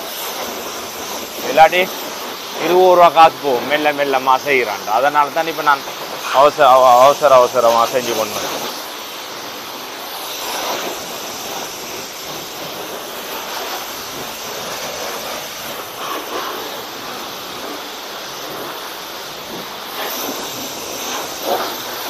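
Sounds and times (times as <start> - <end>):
pressure washer spraying water: 0.0 - 22.0.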